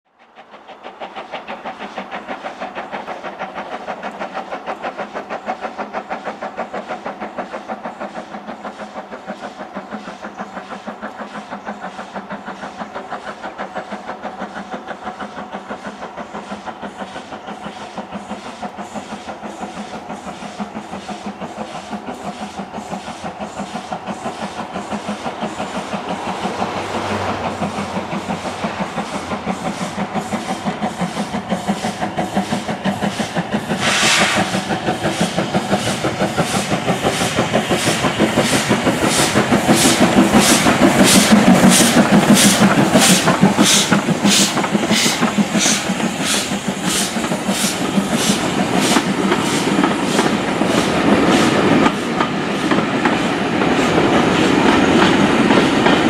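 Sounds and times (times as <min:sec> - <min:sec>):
steam locomotive chuffing: 0:00.1 - 0:56.0.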